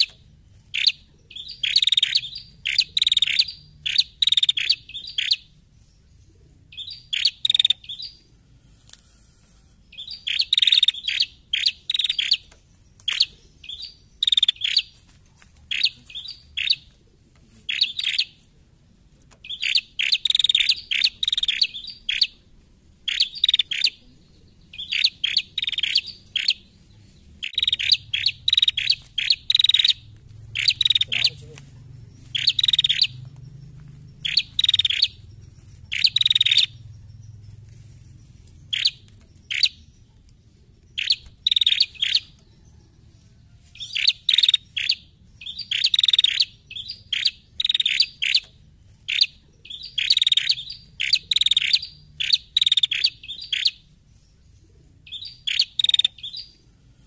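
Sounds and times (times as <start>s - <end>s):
bird chirping in bursts: 0.0s - 15.0s, 15.6s - 17.0s, 17.6s - 57.0s.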